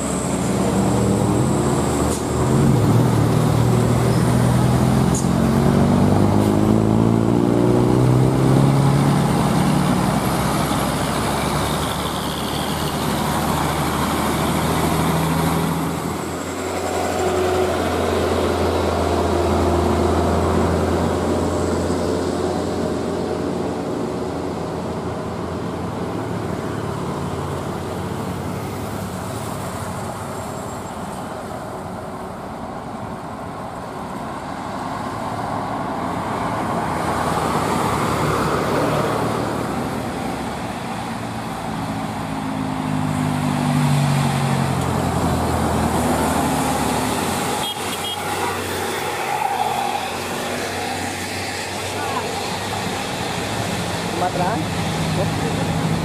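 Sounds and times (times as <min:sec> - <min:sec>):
diesel truck engine labouring: 0:00.0 - 0:56.0.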